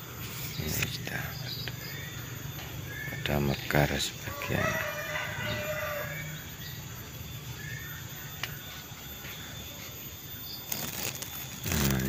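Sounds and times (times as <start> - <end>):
faint bird chirp: 0.0 - 12.0.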